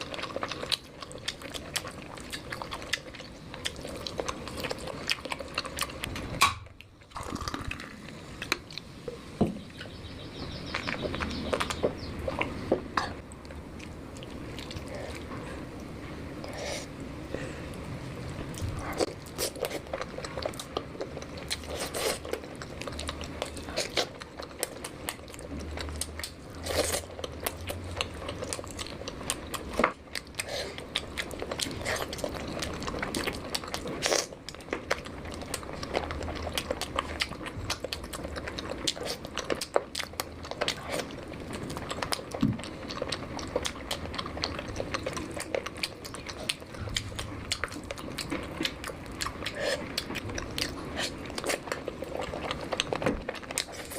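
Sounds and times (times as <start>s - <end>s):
wet chewing with crunches: 0.0s - 53.9s.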